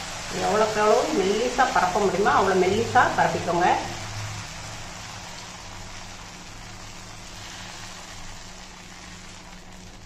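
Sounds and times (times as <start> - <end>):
batter sizzling on hot griddle: 0.0 - 10.0.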